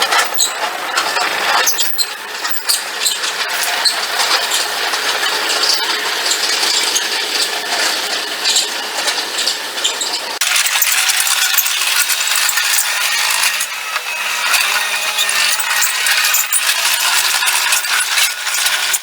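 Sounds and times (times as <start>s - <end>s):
metallic clatter of tracks: 0.0s - 19.0s
track loader engine: 0.0s - 19.0s.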